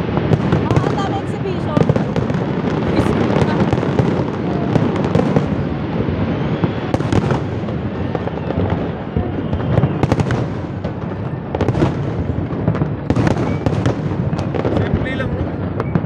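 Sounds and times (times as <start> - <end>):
fireworks bursting and crackling: 0.0 - 16.0
sharp firework bangs: 0.0 - 16.0.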